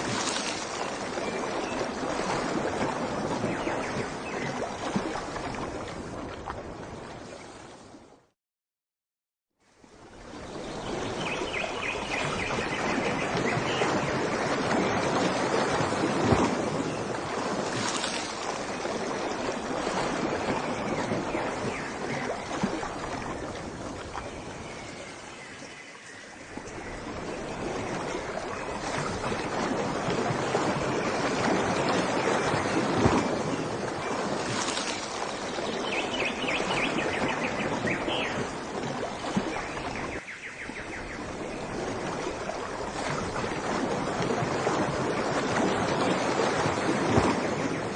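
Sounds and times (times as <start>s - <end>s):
rushing water: 0.0s - 8.3s, 9.6s - 47.9s.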